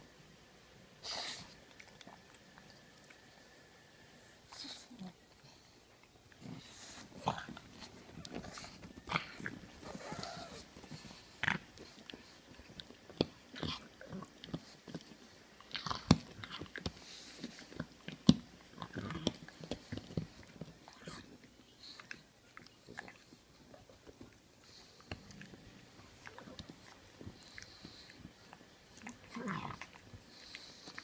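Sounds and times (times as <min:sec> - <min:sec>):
dog chewing a toy bone: 0:06.0 - 0:31.0.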